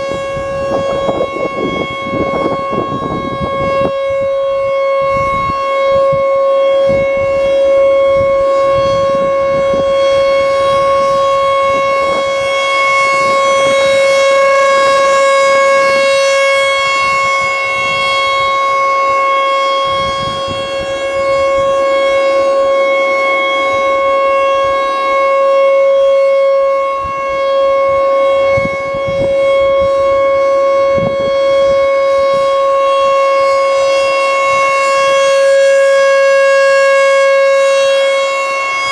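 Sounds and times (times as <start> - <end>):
steady warning siren tone: 0.0 - 38.9.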